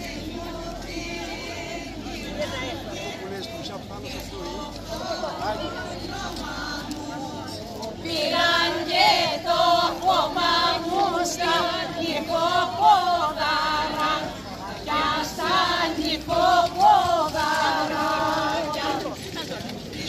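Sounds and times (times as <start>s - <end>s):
group singing together: 0.0s - 20.0s.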